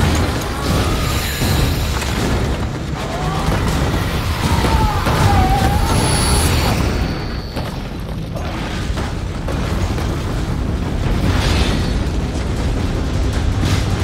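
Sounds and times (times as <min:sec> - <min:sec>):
booms and impact blasts: 0:00.0 - 0:14.0
deep rumble: 0:00.0 - 0:14.0.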